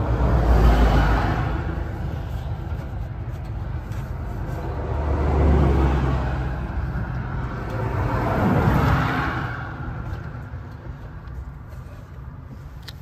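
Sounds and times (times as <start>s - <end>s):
low engine hum: 0.0s - 13.0s
vehicles passing by: 0.0s - 13.0s.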